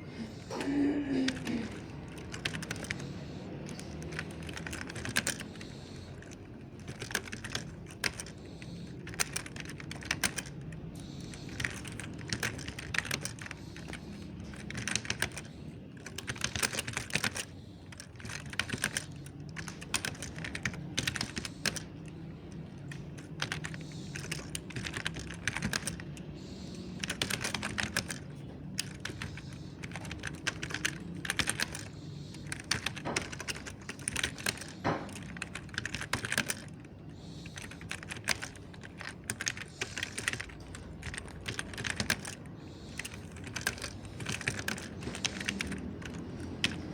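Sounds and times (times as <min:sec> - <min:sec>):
mechanical keyboard typing: 0:00.0 - 0:46.9.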